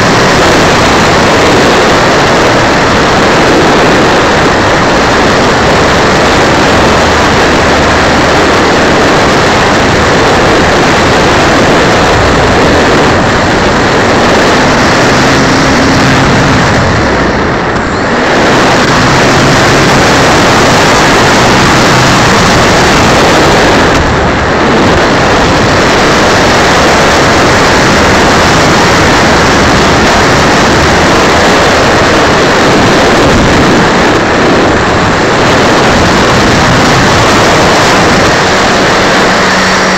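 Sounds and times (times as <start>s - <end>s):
propeller noise: 0.0s - 39.9s
wind rushing: 0.0s - 39.9s.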